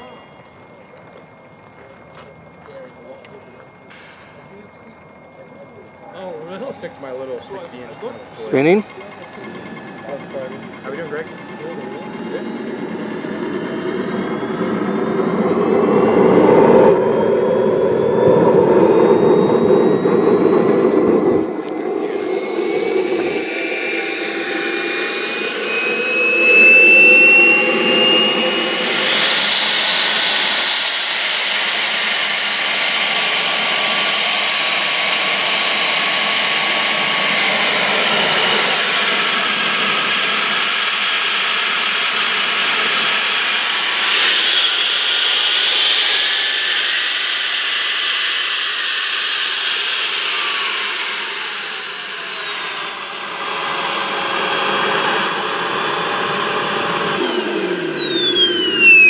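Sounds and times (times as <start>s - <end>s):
jet turbine engine starting: 0.0s - 59.0s.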